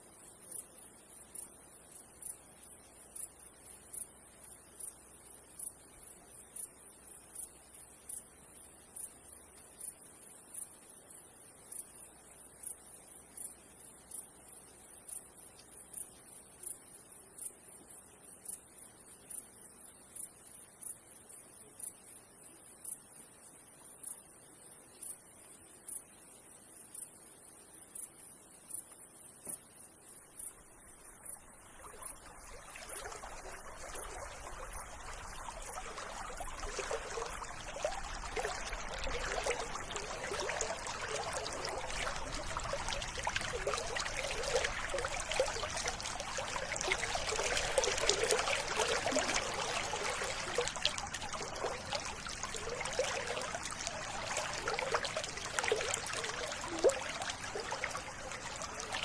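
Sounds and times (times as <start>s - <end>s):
river water trickling: 0.0s - 59.0s.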